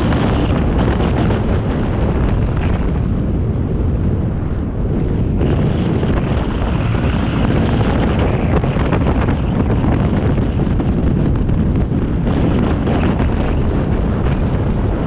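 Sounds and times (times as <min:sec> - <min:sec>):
road and vehicle noise: 0:00.0 - 0:15.0
wind buffeting microphone: 0:00.0 - 0:15.0.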